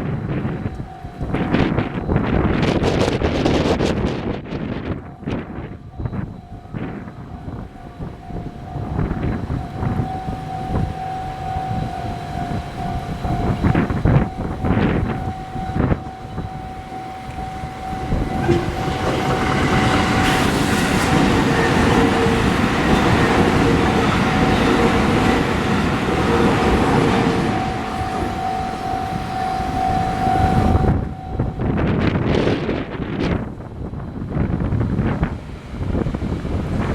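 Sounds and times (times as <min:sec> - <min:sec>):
railroad crossing alarm: 0:00.0 - 0:36.9
train passing: 0:00.0 - 0:36.9.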